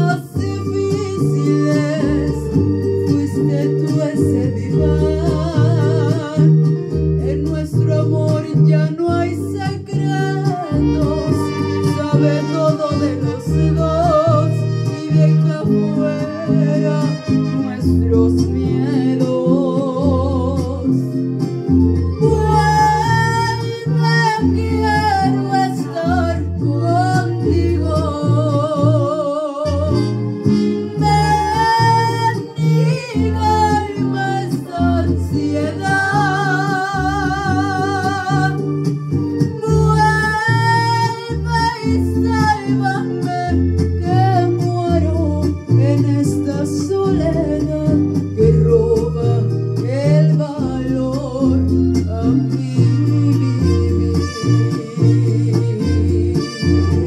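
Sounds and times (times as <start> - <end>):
girl singing with vibrato: 0.0 - 21.2, 22.2 - 30.2, 30.8 - 57.0
guitar and bass accompaniment: 0.0 - 57.0.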